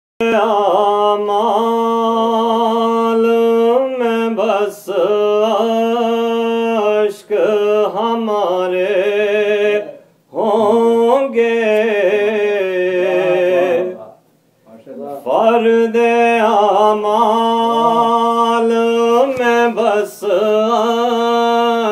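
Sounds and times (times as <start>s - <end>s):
man chanting a lament: 0.2s - 21.9s.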